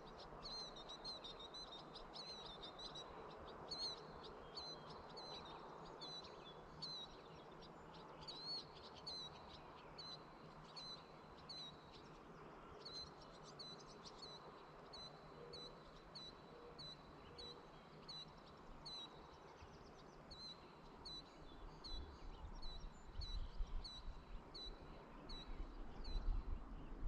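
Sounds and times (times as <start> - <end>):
bird chirping: 0.0 - 27.0
faint rural background: 0.0 - 27.0.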